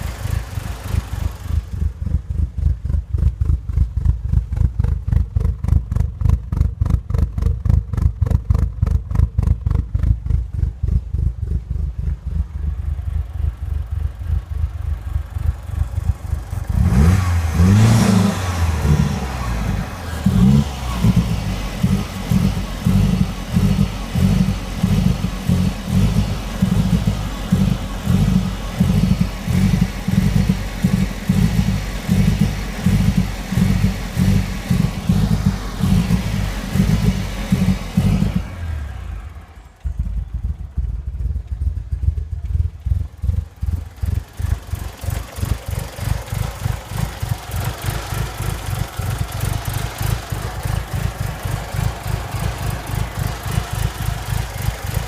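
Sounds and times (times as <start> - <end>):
car engine idling unevenly: 0.0 - 55.0.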